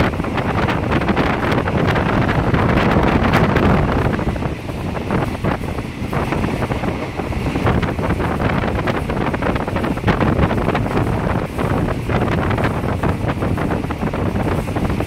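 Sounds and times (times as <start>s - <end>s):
train running rumble: 0.0s - 15.0s
wind rushing over microphone: 0.0s - 15.0s.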